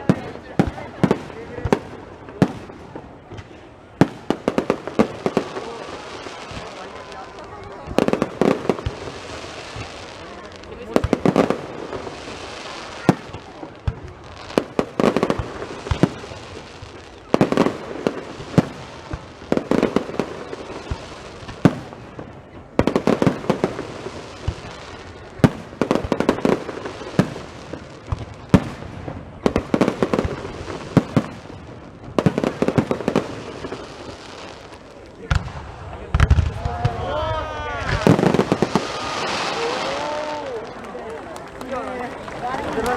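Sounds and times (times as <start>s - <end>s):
fireworks cracking and banging: 0.0s - 42.9s.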